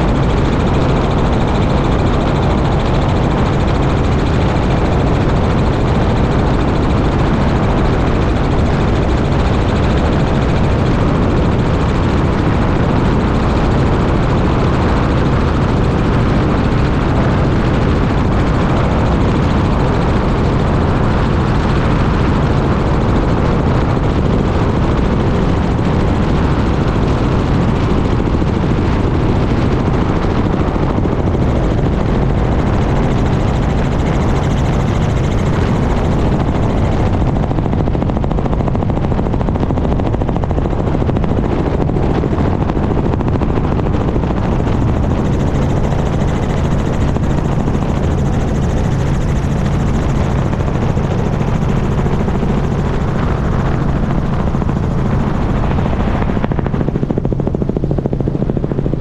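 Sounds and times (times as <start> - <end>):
helicopter rotor and engine drone: 0.0 - 59.0
wind noise: 0.0 - 59.0.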